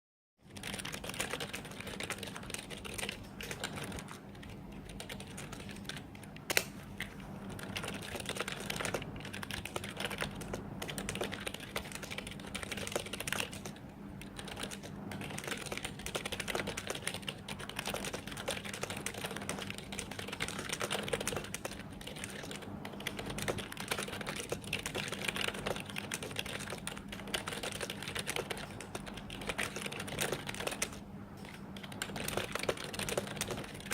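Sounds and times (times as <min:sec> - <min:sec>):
fast keyboard typing: 0:00.4 - 0:33.9.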